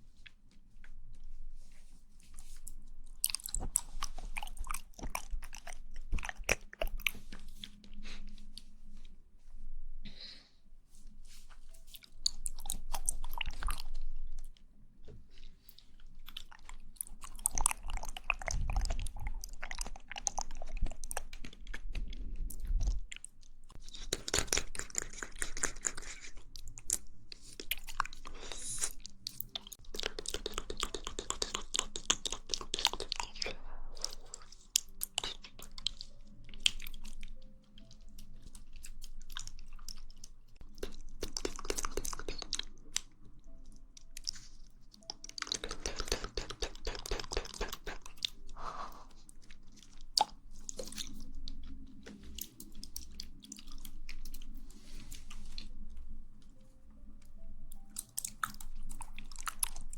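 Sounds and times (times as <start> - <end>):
wet chewing and squelching: 0.0 - 9.1, 11.3 - 59.9.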